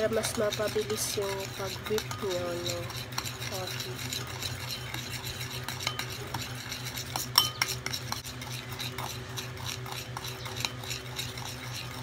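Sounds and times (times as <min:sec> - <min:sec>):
spoon whisking in ceramic bowl: 0:00.0 - 0:12.0.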